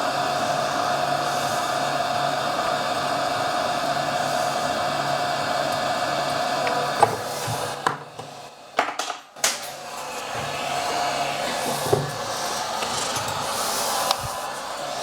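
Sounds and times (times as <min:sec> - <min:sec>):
hot air station blowing: 0:00.0 - 0:08.8, 0:09.4 - 0:15.0.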